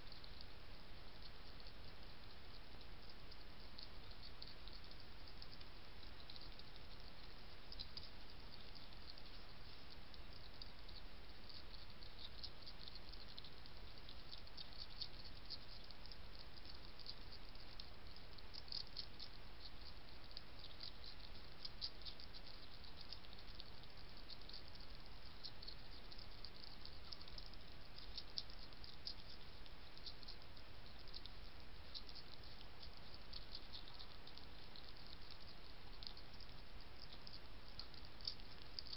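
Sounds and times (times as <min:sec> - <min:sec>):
steady hiss: 0:00.0 - 0:38.9
hedgehog crunching kibble: 0:01.2 - 0:38.9.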